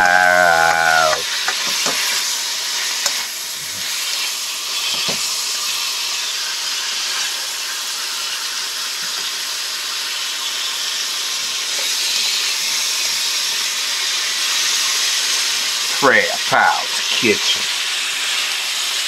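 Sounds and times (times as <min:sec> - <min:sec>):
sausage and onions sizzling: 0:00.0 - 0:19.0.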